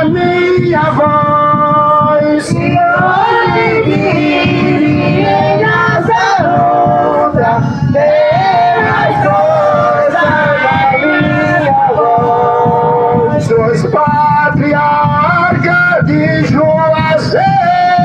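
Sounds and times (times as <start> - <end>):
man singing hymn over loudspeaker: 0.0 - 18.0
voices singing along: 0.0 - 18.0.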